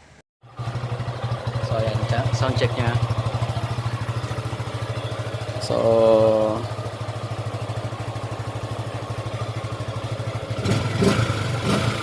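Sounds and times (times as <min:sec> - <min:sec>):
motorcycle engine idling: 0:00.4 - 0:12.0.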